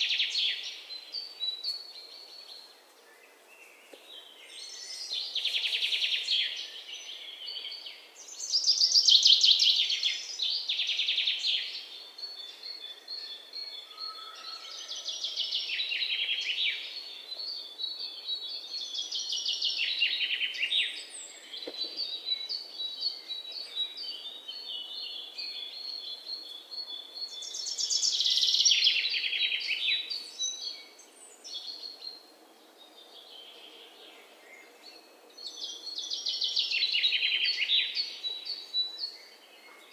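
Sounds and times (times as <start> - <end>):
songbirds singing trills: 0.0 - 39.9.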